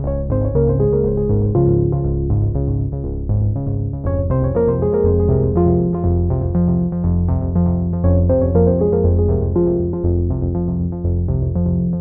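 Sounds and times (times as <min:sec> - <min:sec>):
synthesizer music with bass line: 0:00.0 - 0:12.0.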